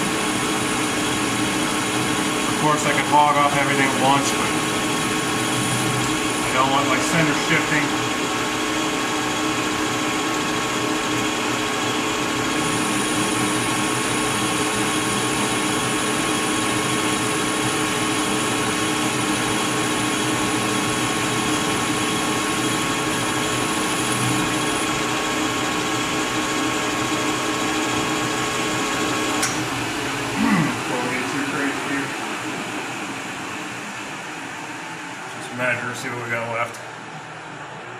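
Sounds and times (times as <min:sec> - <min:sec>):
metal lathe humming: 0:00.0 - 0:35.5.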